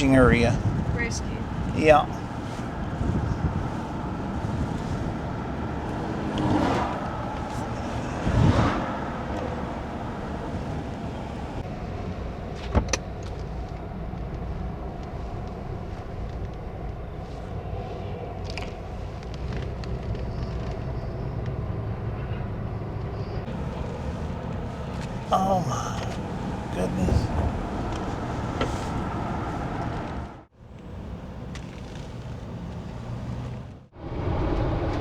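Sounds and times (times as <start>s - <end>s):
car road and engine noise: 0.0s - 35.0s.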